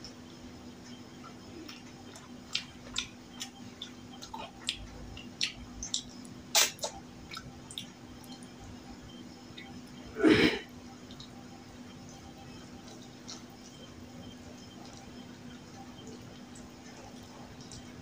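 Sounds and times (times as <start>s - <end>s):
wet chewing and smacking: 0.8s - 8.8s, 11.1s - 18.0s.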